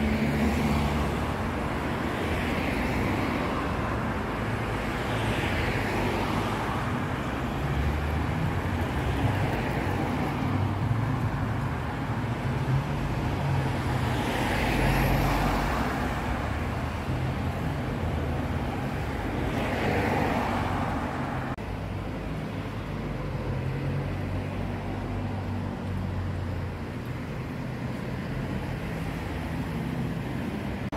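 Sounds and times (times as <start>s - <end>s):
cars driving past: 0.0s - 30.9s
low steady traffic rumble: 0.0s - 30.9s.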